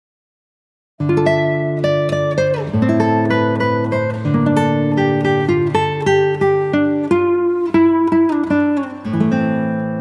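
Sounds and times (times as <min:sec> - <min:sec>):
acoustic guitar picking: 0:01.0 - 0:10.0.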